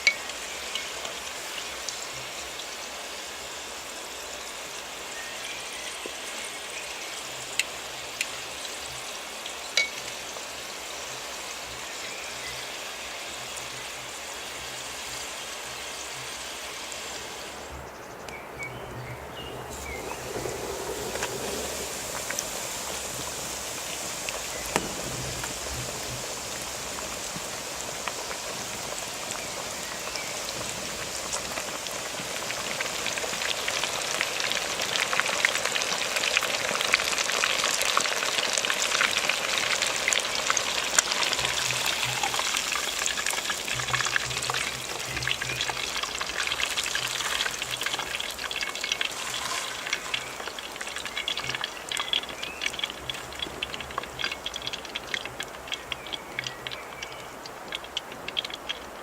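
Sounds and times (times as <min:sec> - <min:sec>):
food sizzling and crackling: 0:00.0 - 0:59.0.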